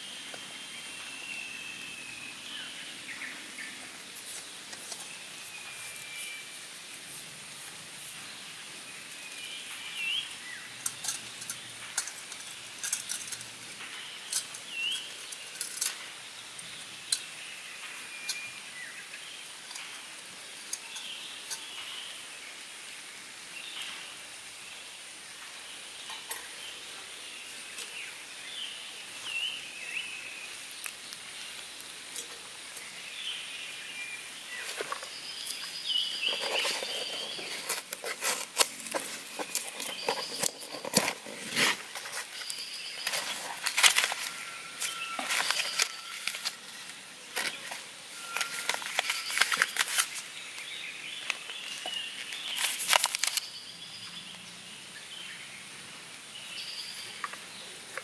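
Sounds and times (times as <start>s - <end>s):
birds chirping: 0.0s - 20.1s, 24.7s - 58.0s
steady high hiss: 0.0s - 58.0s.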